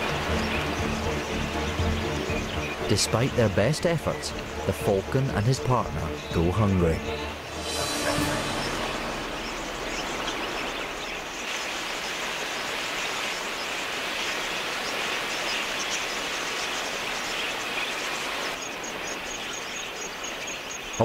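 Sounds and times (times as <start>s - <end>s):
flock of budgerigars chirping: 0.0s - 21.0s.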